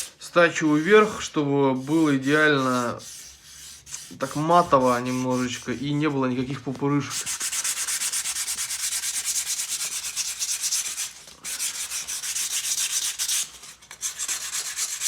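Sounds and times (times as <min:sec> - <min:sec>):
sandpaper rubbing on foam: 0:00.0 - 0:15.0.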